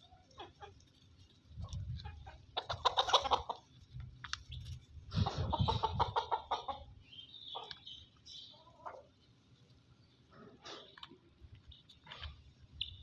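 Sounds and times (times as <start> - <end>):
poultry clucking: 0.0 - 13.0.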